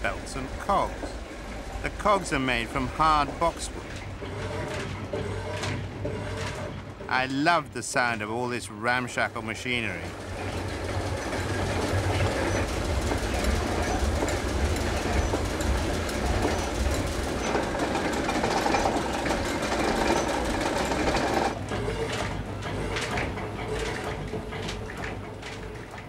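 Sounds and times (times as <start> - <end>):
mill machinery clattering: 0.0 - 26.0.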